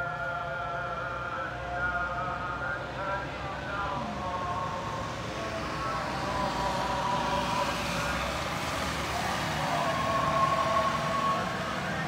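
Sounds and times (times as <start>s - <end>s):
prayer chanted over loudspeaker: 0.0s - 12.0s.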